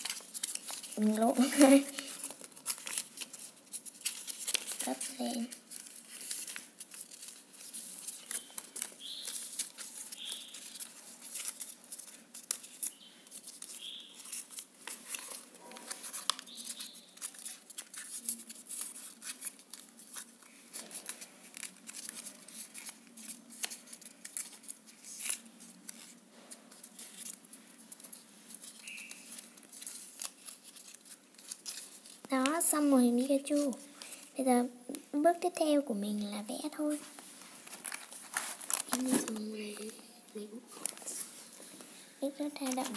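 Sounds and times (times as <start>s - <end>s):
paper being folded and creased: 0.0s - 34.4s, 36.8s - 42.9s.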